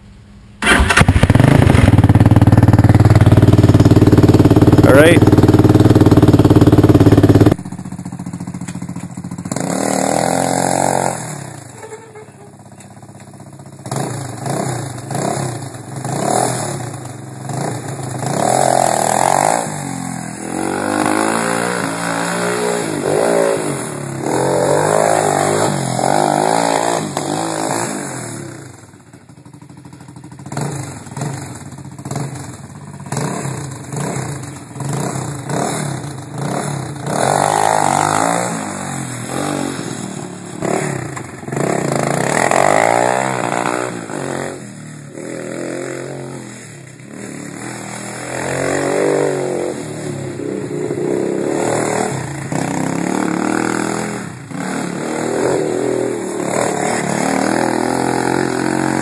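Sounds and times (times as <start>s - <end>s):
quad engine revving: 0.6s - 7.7s, 9.3s - 11.7s, 13.8s - 28.9s, 33.1s - 59.0s.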